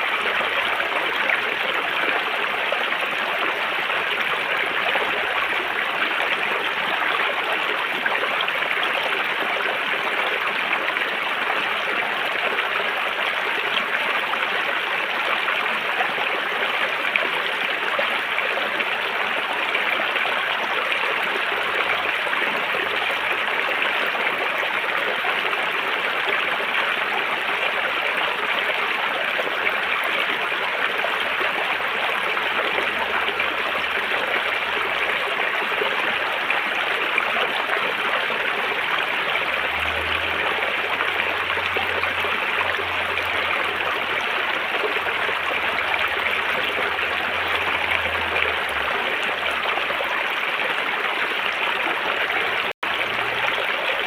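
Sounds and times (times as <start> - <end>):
river water flowing over rocks: 0.0 - 54.0.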